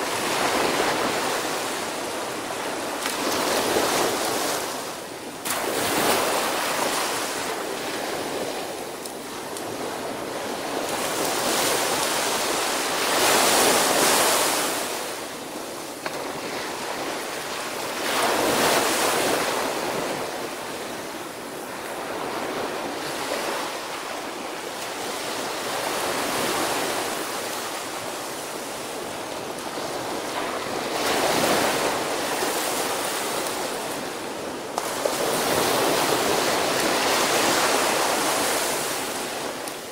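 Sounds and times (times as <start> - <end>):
surf breaking on sandy beach: 0.0 - 39.9.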